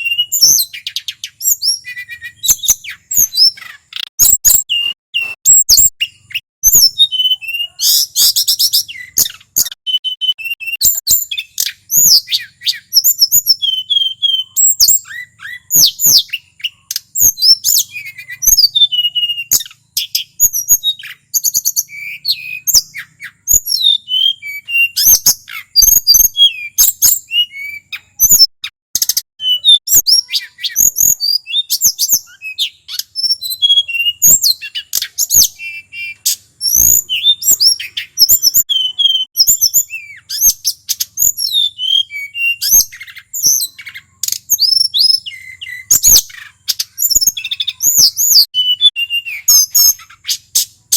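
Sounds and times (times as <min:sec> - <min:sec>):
bird singing: 0:00.0 - 0:50.9.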